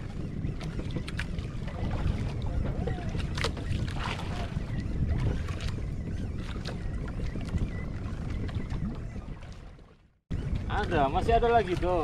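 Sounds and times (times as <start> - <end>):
water lapping against hull: 0.0 - 12.0
wind buffeting microphone: 0.0 - 12.0.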